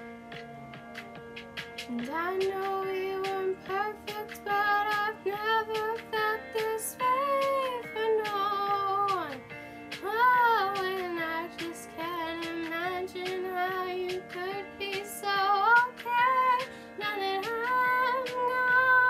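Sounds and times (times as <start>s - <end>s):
instrumental accompaniment: 0.0s - 19.0s
girl singing: 1.9s - 9.4s, 10.0s - 19.0s.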